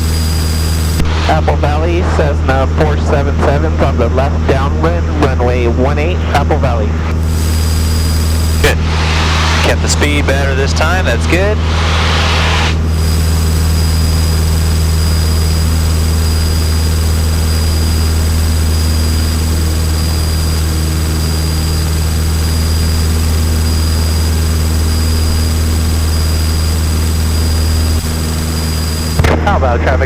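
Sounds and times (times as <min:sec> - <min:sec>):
propeller plane engine drone: 0:00.0 - 0:30.0.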